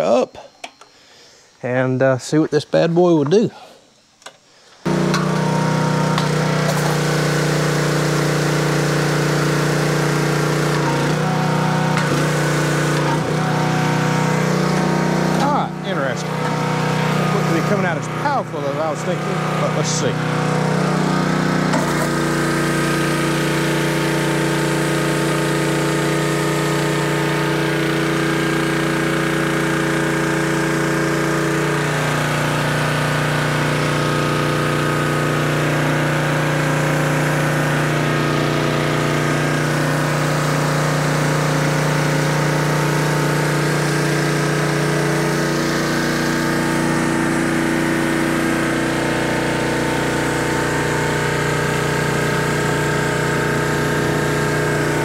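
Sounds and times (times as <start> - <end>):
small gasoline engine running: 4.6 - 55.0
water spraying onto concrete: 4.8 - 55.0.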